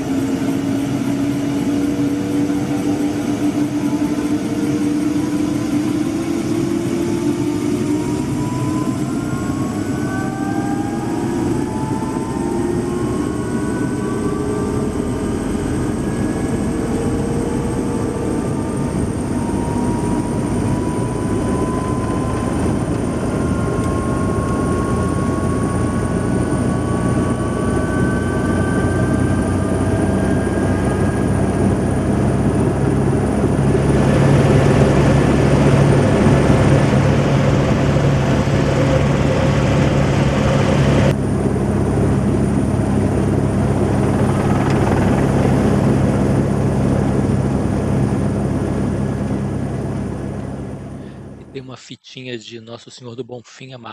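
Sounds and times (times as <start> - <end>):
helicopter engine and rotor: 0.0 - 51.5.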